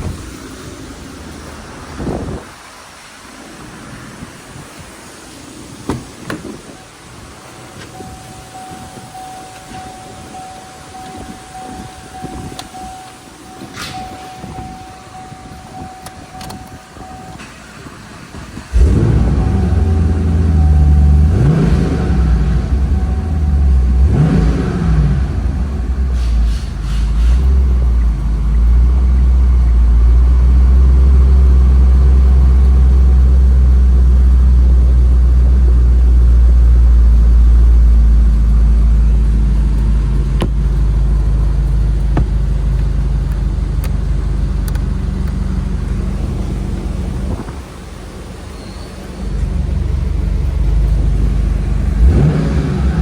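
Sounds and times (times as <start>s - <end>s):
car engine idling: 0.0s - 53.0s
car engine revving: 5.8s - 53.0s.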